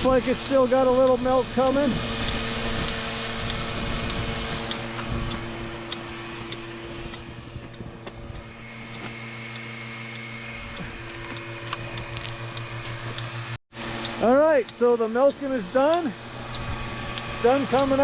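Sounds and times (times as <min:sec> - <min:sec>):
vacuum pump humming: 0:00.0 - 0:18.0.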